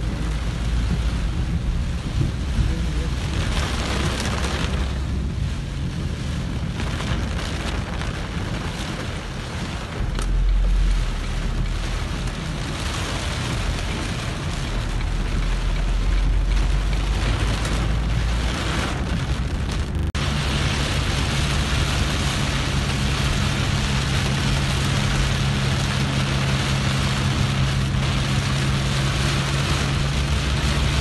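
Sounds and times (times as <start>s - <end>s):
heavy rain on windshield: 0.0s - 31.0s
low rumble of moving vehicle: 0.0s - 31.0s.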